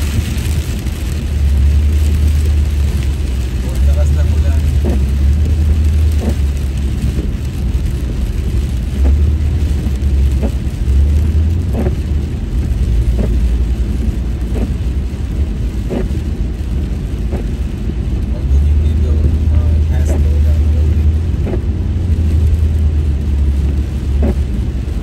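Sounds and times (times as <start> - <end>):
road and tyre rumble: 0.0 - 25.0
windshield wipers swishing: 0.0 - 25.0.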